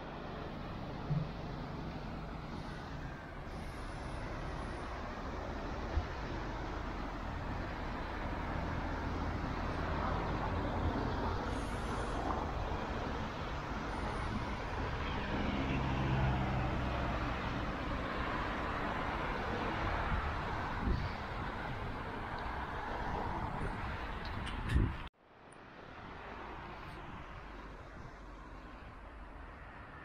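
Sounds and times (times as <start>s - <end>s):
vehicle engine hum: 0.0s - 25.1s
road traffic noise: 0.0s - 30.0s.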